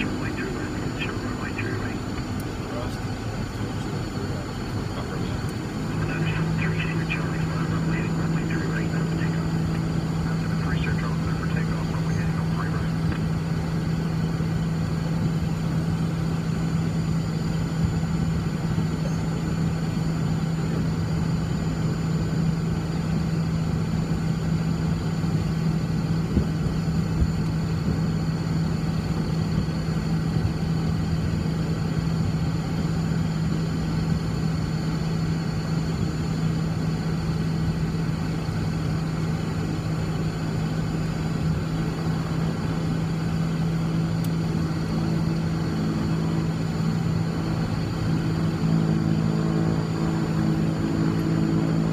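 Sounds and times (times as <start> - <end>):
aircraft piston engines running: 0.0 - 51.9.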